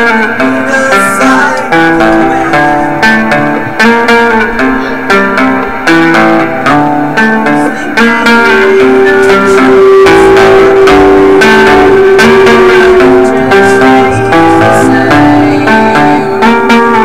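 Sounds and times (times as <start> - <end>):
electric guitars and bass: 0.0 - 17.0.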